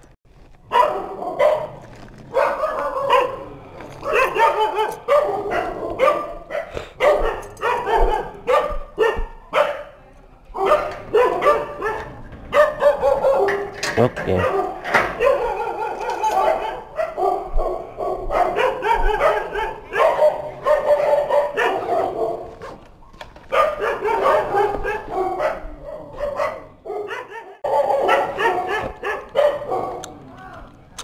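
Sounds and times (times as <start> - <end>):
dog barking: 0.7 - 22.9, 23.5 - 30.2.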